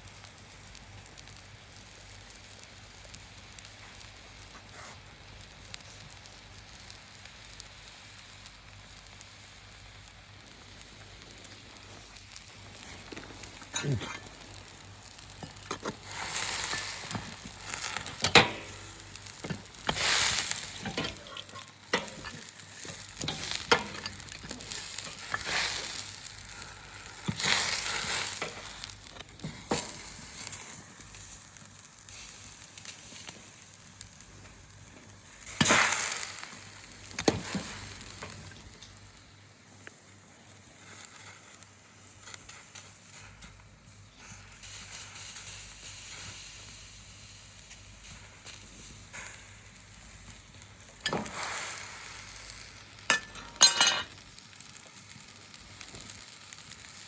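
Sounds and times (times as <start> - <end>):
meat sizzling over fire: 0.0 - 57.0
sharp pops and crackles: 0.0 - 57.0.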